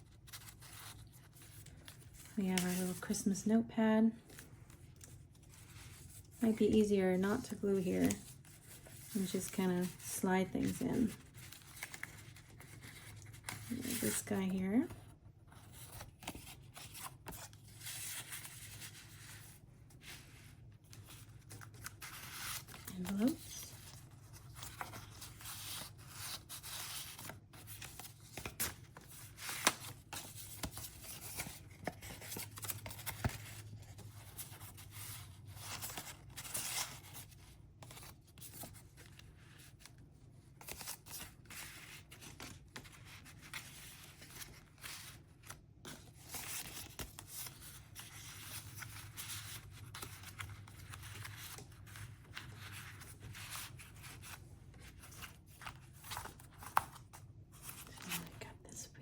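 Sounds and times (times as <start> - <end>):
paper cards rustling and sliding: 0.0 - 3.3, 4.2 - 58.7.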